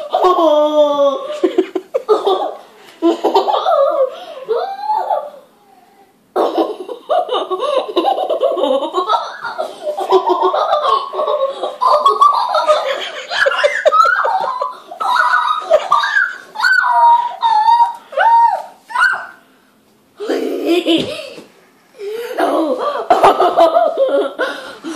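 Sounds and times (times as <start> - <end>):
girl laughing: 0.0 - 5.5, 6.4 - 18.7, 20.2 - 24.9.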